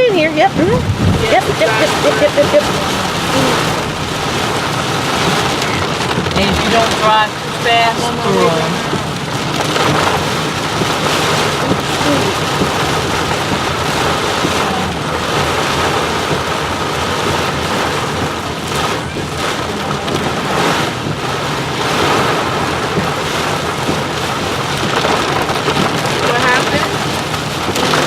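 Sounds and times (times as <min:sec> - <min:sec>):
heavy rain on a car: 0:00.0 - 0:28.0.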